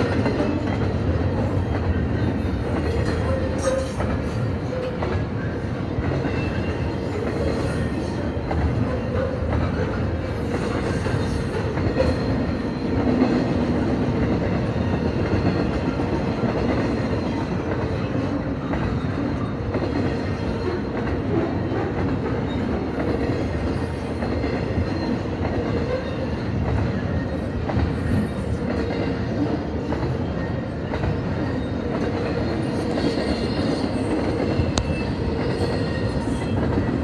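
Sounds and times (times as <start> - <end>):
freight train wheels on rails: 0.0 - 37.0.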